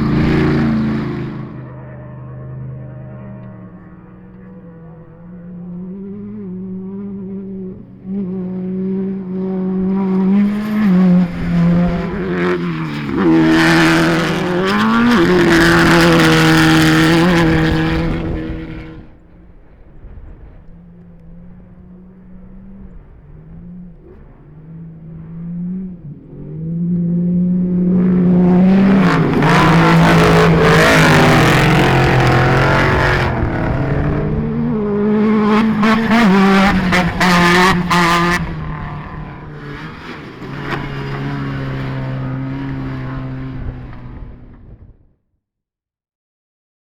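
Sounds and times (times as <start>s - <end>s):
racing engines passing: 0.0s - 44.9s.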